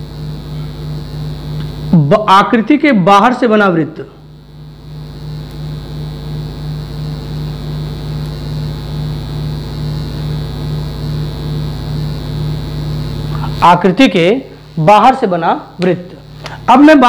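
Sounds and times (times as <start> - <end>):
faint high whine: 0.0 - 17.0
low electrical hum: 0.0 - 17.0.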